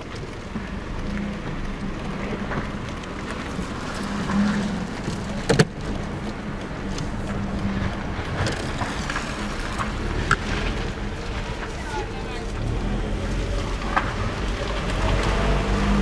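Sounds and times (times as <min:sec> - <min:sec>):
car engine hum: 0:00.0 - 0:16.0
road rumble: 0:00.0 - 0:16.0.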